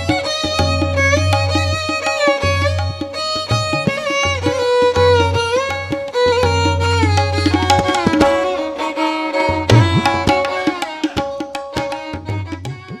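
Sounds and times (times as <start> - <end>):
drum strikes: 0.0 - 8.6, 9.7 - 12.1.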